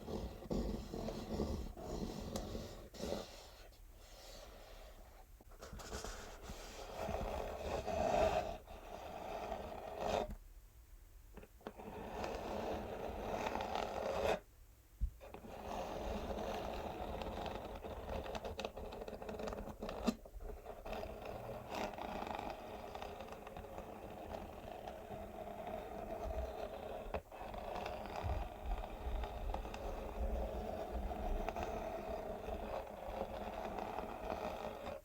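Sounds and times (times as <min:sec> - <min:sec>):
fingernails scratching cardboard box: 0:00.0 - 0:10.3, 0:15.3 - 0:35.0.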